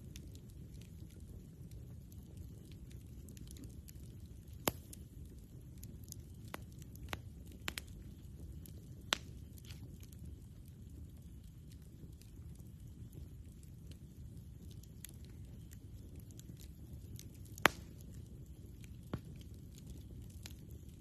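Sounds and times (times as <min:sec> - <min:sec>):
campfire burning: 0:00.0 - 0:21.0
fire crackles and pops: 0:00.0 - 0:21.0.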